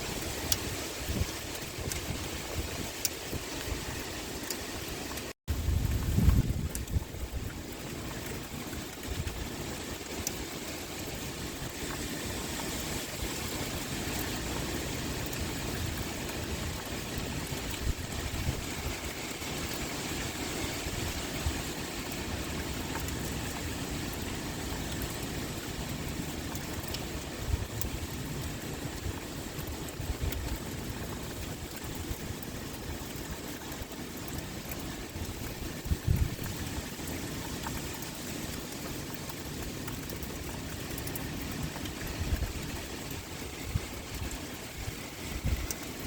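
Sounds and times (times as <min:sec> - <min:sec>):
pouring rain: 0:00.0 - 0:46.0
wind: 0:00.0 - 0:46.0.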